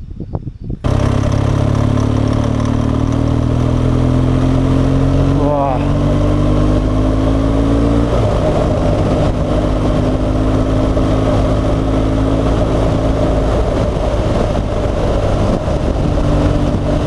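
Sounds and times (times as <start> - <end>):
motorcycle engine rumbling: 0.6 - 17.0.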